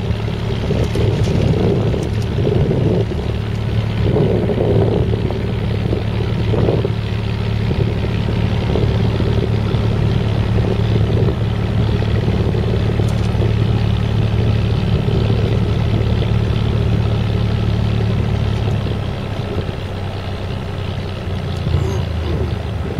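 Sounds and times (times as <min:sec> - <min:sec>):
boat engine humming: 0:00.0 - 0:22.9.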